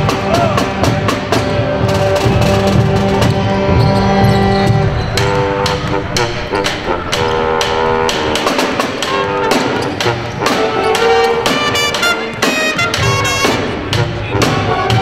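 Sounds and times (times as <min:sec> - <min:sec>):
brass instruments playing: 0:00.0 - 0:15.0
drum beat: 0:00.0 - 0:15.0.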